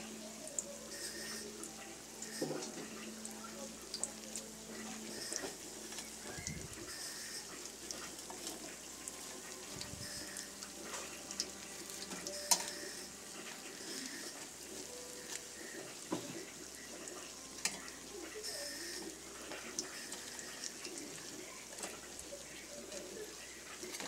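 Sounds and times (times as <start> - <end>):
food frying in hot oil: 0.0 - 24.0.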